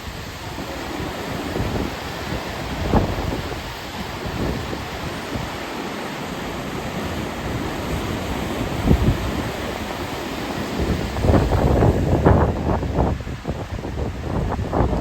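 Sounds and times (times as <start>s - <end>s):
river rushing: 0.0s - 15.0s
wind buffeting microphone: 0.0s - 15.0s.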